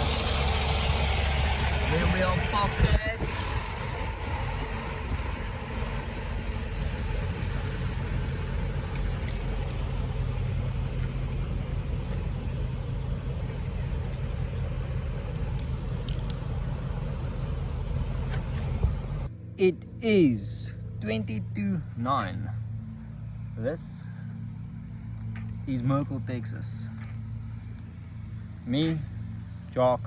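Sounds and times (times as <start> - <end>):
vehicle engine humming: 0.0 - 19.5, 20.8 - 29.8.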